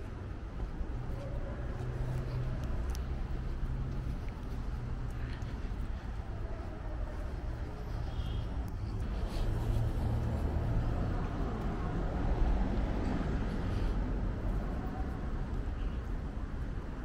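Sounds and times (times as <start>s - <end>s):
hum of road traffic: 0.0s - 17.0s.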